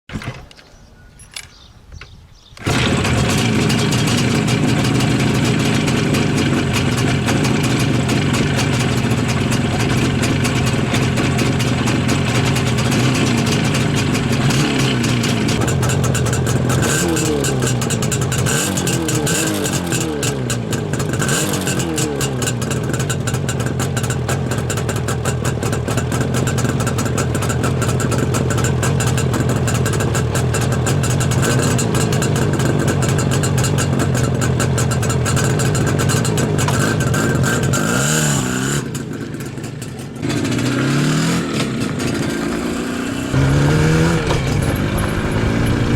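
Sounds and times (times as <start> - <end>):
motorcycle engine starting and revving: 2.6 - 45.9.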